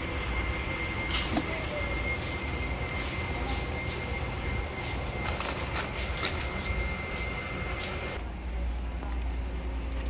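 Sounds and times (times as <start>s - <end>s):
store background rumble: 0.0s - 10.0s.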